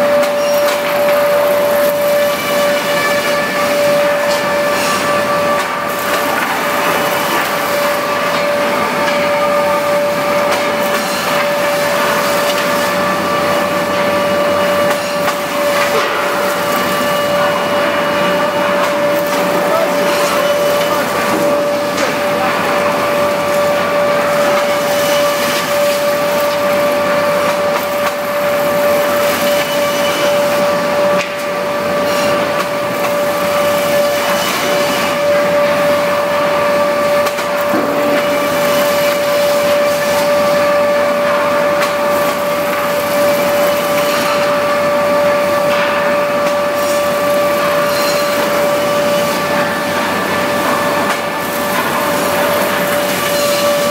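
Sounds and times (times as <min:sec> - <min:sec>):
woodworking planer running: 0:00.0 - 0:53.9.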